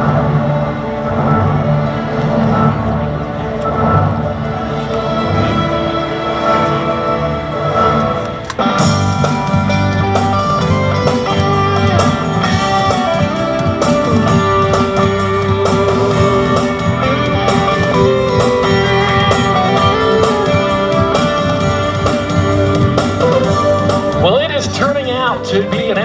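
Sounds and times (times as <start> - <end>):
music with guitar and drums: 4.9 - 26.0.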